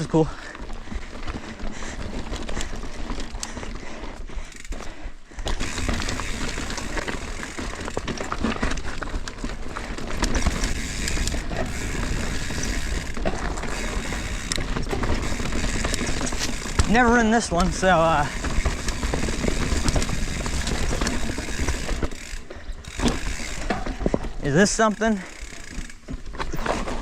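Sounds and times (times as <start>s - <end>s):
bike rattling and knocking: 0.0s - 27.0s
bike tyres rolling on dirt and rock: 0.0s - 27.0s.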